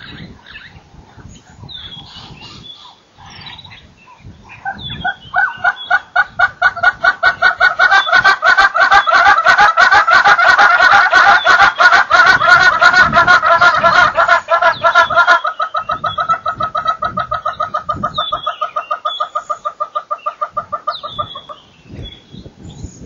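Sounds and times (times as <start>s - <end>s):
birds calling in repeated notes: 0.0s - 23.0s.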